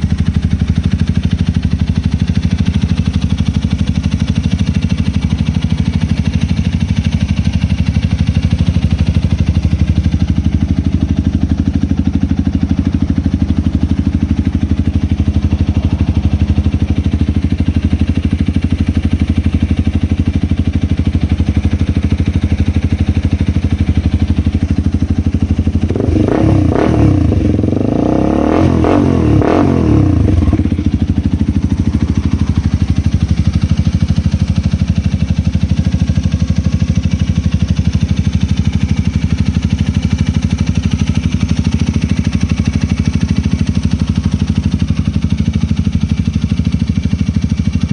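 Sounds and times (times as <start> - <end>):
motorcycle engine idling: 0.0 - 47.9.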